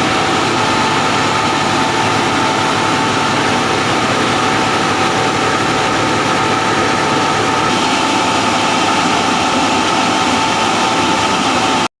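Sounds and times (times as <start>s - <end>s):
high machine whine: 0.0s - 11.9s
loud industrial machinery noise: 0.0s - 11.9s.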